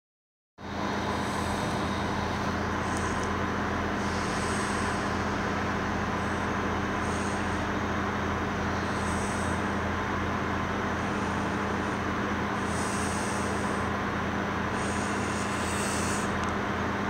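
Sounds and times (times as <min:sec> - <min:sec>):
faint whine: 0:00.6 - 0:17.0
train diesel engine drone: 0:00.6 - 0:17.0.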